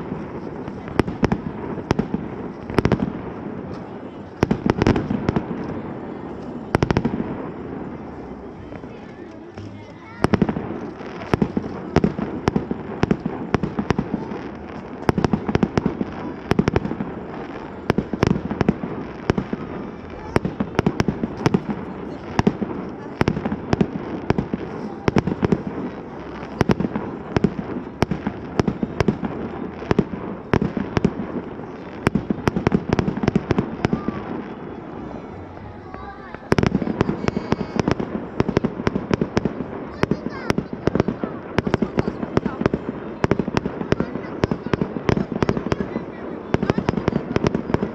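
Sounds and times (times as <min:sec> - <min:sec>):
fireworks banging: 0:00.0 - 0:47.9.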